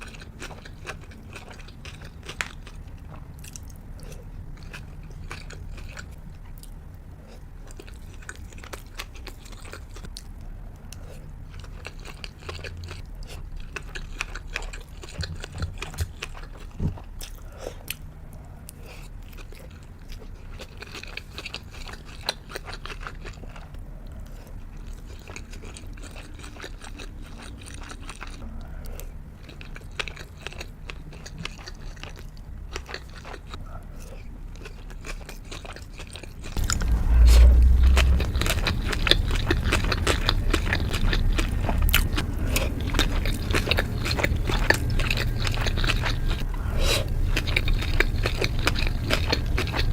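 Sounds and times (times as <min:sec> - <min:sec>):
close chewing with wet mouth clicks: 0:00.0 - 0:49.9.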